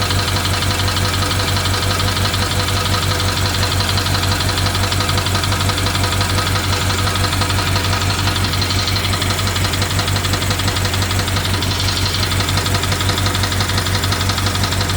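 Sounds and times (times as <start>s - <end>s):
car engine idling: 0.0s - 14.9s
fast even engine ticking: 0.0s - 14.9s.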